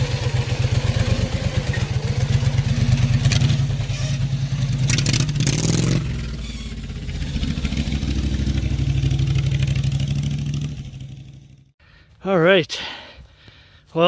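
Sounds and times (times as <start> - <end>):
engine exhaust pulsing: 0.0 - 11.7.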